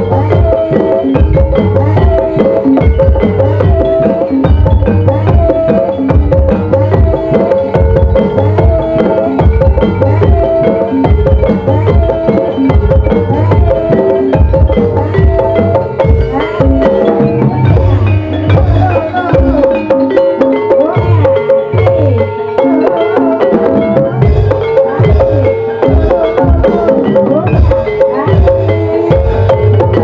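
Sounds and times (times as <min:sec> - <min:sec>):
struck keyed metallophones: 0:00.0 - 0:30.0.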